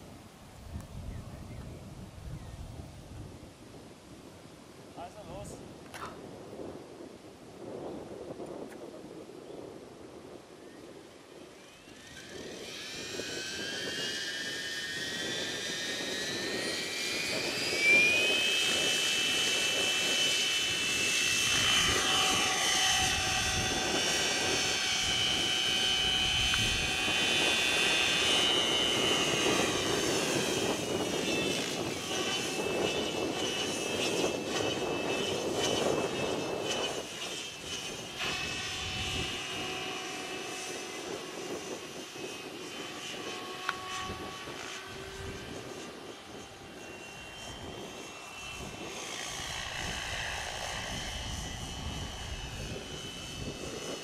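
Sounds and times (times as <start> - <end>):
rc helicopter motor whine: 0.0 - 54.0
wind rumble on microphone: 0.0 - 54.0.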